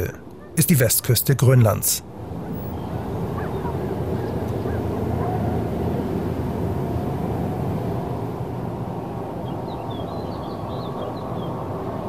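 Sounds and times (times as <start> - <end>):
airliner engine drone: 0.6 - 12.0.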